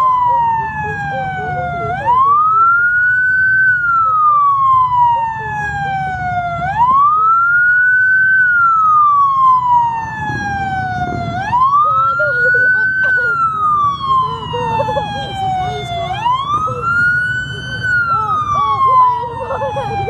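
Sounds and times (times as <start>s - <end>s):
police siren wailing: 0.0s - 20.0s.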